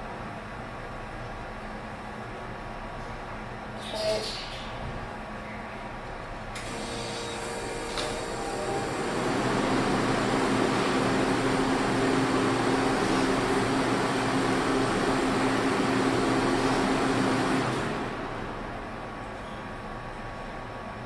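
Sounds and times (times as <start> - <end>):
fan rushing with low hum: 0.0 - 21.0.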